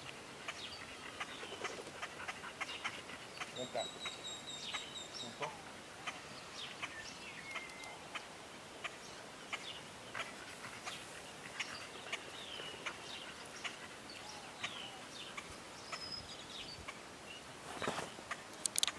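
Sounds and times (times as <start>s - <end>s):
birds chirping: 0.0s - 18.9s
faint background hiss: 0.0s - 18.9s.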